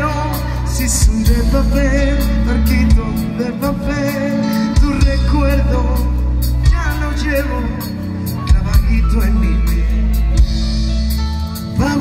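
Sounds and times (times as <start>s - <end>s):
electric bass guitar: 0.0s - 12.0s.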